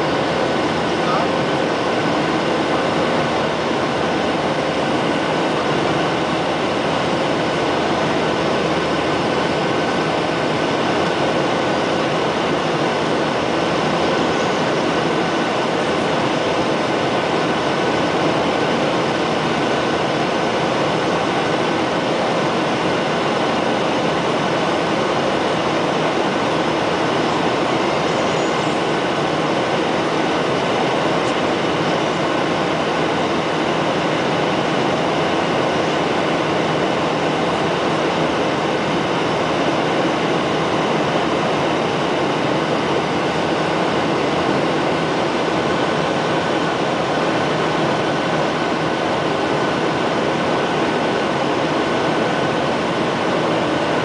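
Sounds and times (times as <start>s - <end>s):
faint steady whine: 0.0s - 54.0s
jet engines and airflow rushing: 0.0s - 54.0s.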